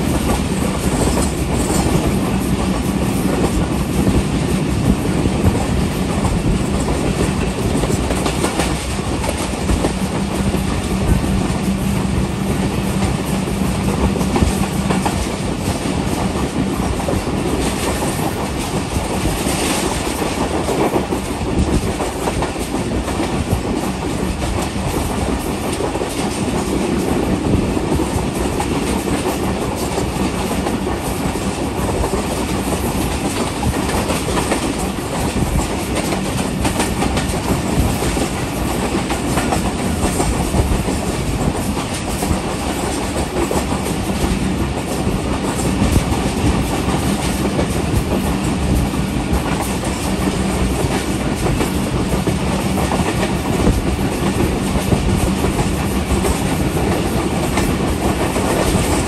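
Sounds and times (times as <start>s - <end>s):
train wheels clattering over rail joints: 0.0s - 59.0s.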